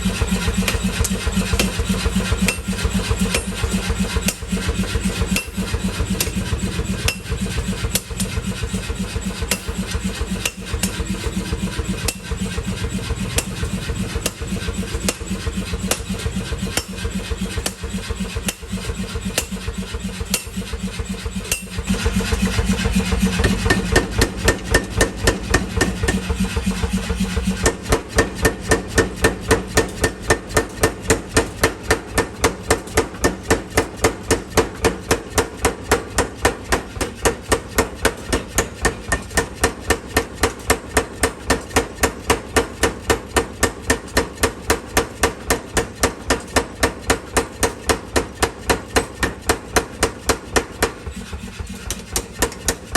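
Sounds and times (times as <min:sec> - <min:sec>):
loud machine motor running: 0:00.0 - 0:52.9
power hammer striking metal: 0:00.0 - 0:52.9.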